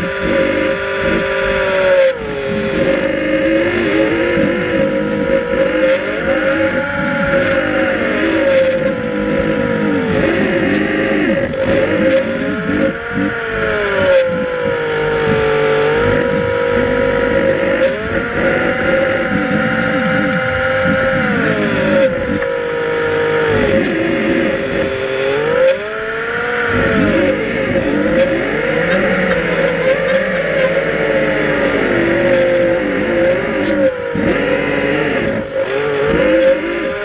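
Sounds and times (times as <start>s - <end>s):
motor drone underwater: 0.0s - 37.0s.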